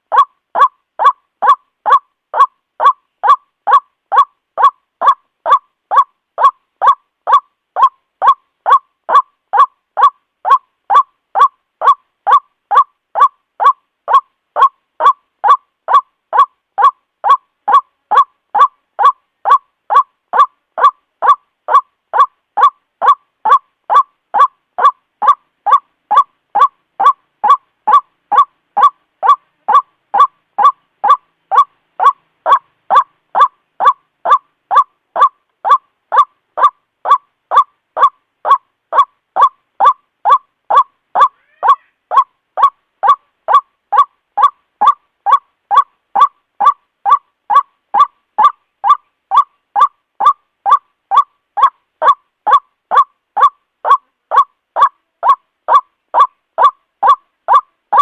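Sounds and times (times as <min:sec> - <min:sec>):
waterhen honking calls: 0:00.0 - 0:58.0.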